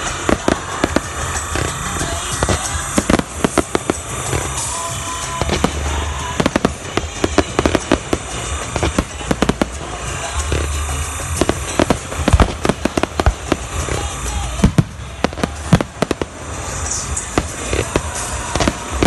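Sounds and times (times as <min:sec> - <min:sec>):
deep firework boom: 0:00.0 - 0:19.0
fireworks cracking and banging: 0:00.0 - 0:19.0.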